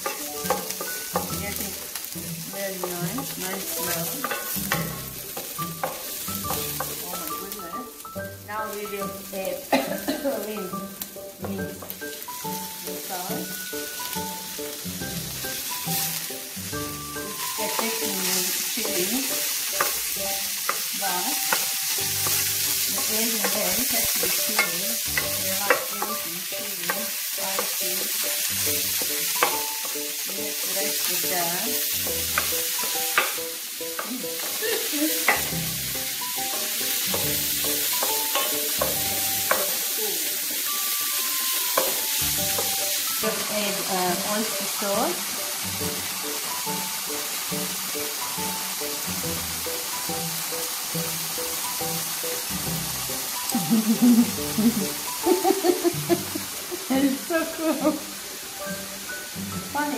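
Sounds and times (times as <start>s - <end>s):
meat sizzling in oil: 0.0s - 59.9s.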